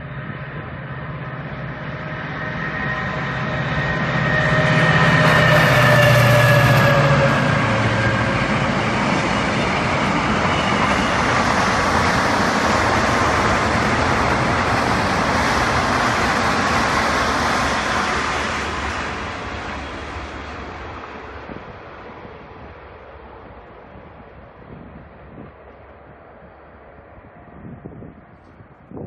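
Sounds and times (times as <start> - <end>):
diesel train engine hum: 0.0 - 29.0
electric train rolling past: 0.0 - 29.0.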